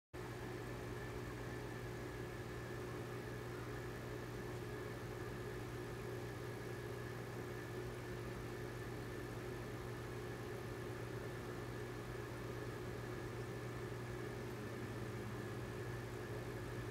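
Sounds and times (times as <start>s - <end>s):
aquarium air pump humming: 0.2s - 16.9s.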